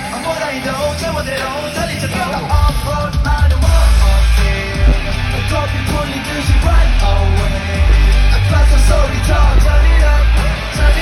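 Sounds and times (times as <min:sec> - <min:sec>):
heavy bass and drums: 0:00.0 - 0:11.0
live pop-rock music: 0:00.0 - 0:11.0.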